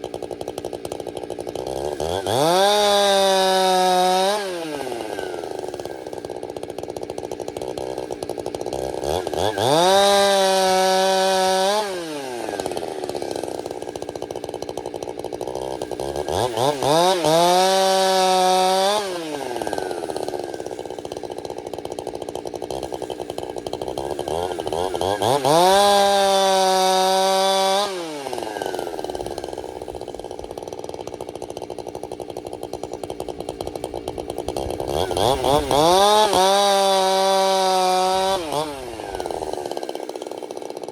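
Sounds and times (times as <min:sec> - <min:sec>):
chainsaw cutting through log: 0:00.0 - 0:40.9
chainsaw idling and revving: 0:00.0 - 0:40.9.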